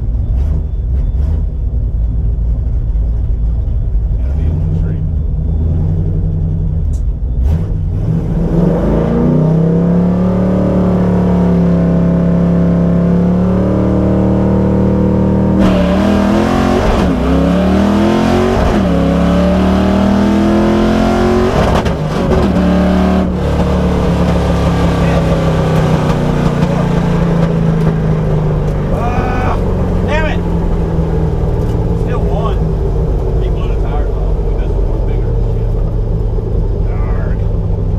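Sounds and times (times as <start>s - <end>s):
car engine revving and shifting: 4.2s - 37.9s.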